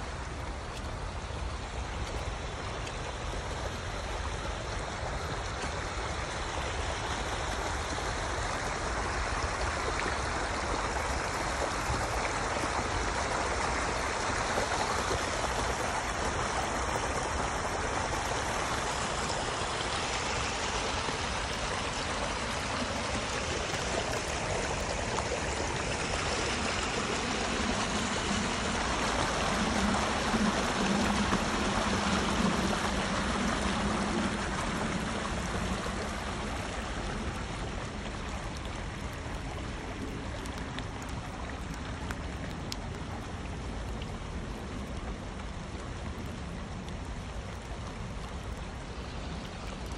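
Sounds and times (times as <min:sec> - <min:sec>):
rainwater rushing in channel: 0:00.0 - 0:49.9.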